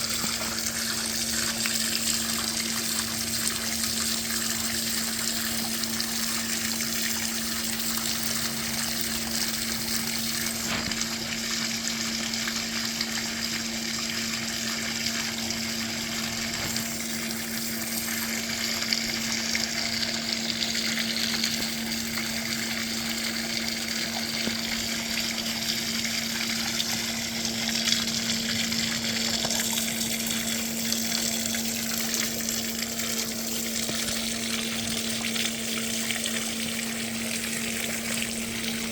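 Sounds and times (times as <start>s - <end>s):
water rushing from pump pipe: 0.0s - 38.9s.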